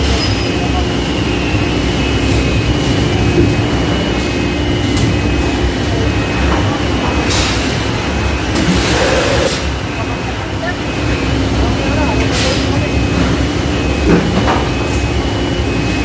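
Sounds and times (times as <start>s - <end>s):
factory machinery drone: 0.0s - 16.0s.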